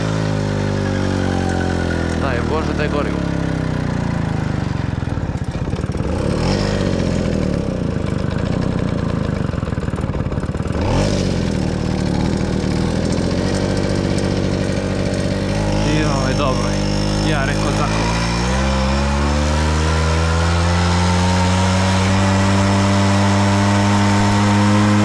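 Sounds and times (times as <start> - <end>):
moped two-stroke engine: 0.0 - 25.0.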